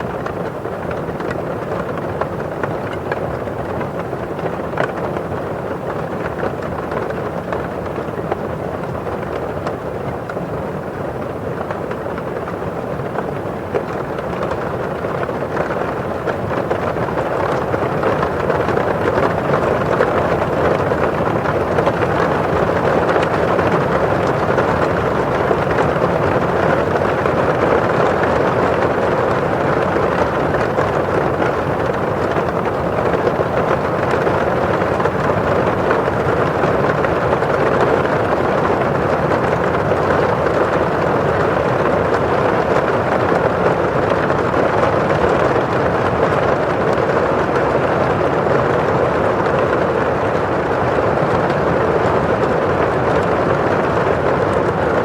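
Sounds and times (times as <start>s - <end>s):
rain drops on window glass: 0.0s - 55.0s
rain falling outside: 0.0s - 55.0s.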